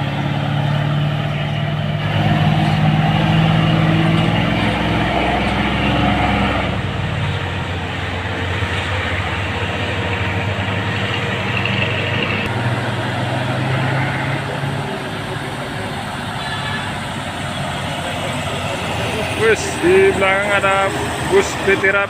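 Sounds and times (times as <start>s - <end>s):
diesel truck engines labouring: 0.0s - 22.0s.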